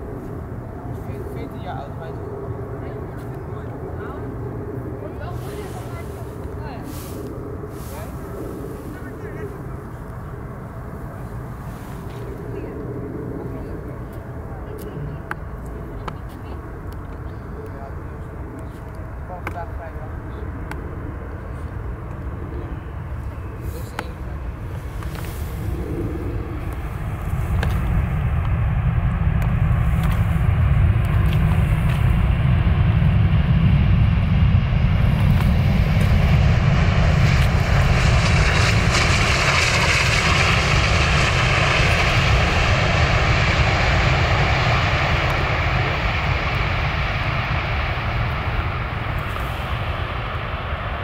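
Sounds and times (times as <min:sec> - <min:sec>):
jet engines rumbling: 0:00.0 - 0:51.0.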